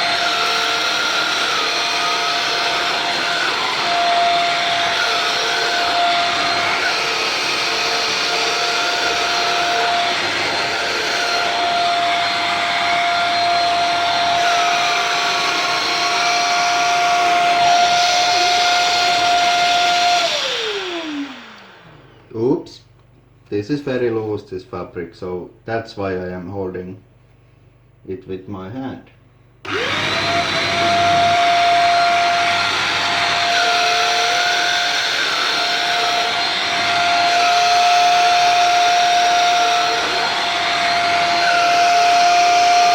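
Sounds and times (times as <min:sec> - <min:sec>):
vacuum cleaner whining: 0:00.0 - 0:22.8, 0:29.6 - 0:42.9.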